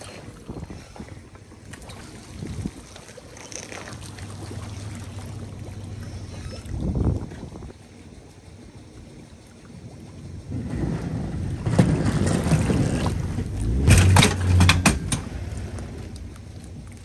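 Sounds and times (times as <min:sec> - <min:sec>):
outboard motor: 0:00.0 - 0:17.0
water wash: 0:00.0 - 0:17.0.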